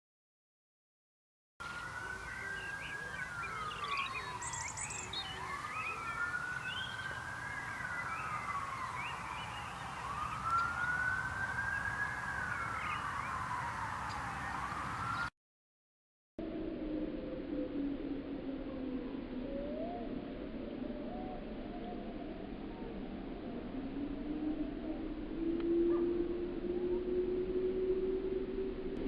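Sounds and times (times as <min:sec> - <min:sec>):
siren wailing: 0:01.6 - 0:15.3, 0:16.4 - 0:29.0.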